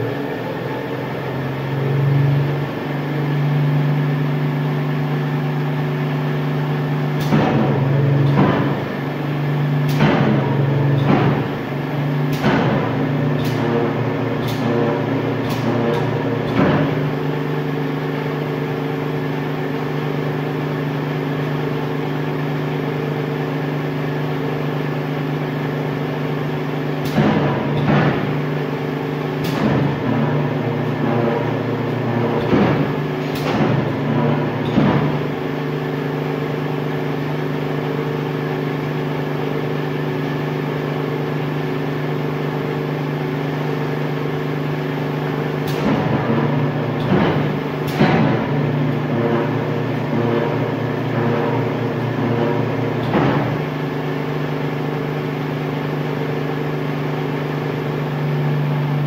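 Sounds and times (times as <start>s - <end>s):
press motor hum: 0.0s - 59.0s.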